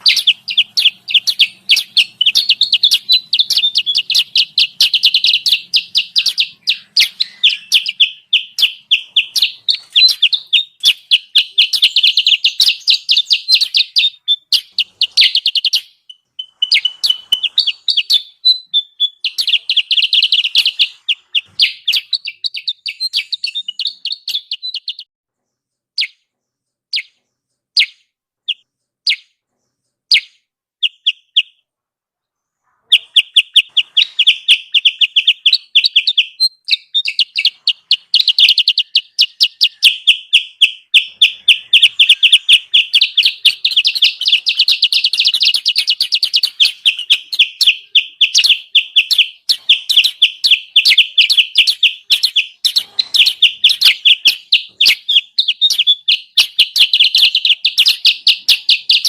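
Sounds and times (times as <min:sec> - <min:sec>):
recorded bird chirping: 0:00.0 - 0:59.0.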